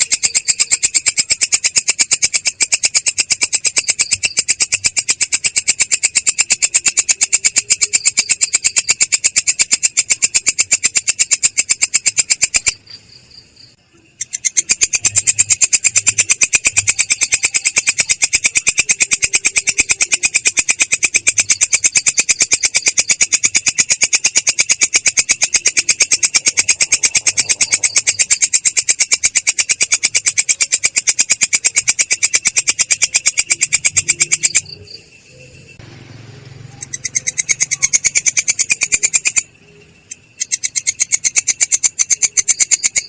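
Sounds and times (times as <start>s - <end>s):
insect rasping clicks: 0.0s - 13.0s, 14.2s - 35.0s, 36.8s - 43.0s.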